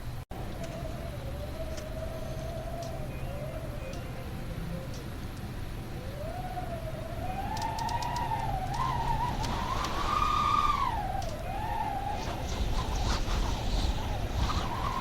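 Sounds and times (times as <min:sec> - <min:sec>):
low rumble of gusting air: 0:00.0 - 0:15.0
wind howling and whistling: 0:00.0 - 0:15.0.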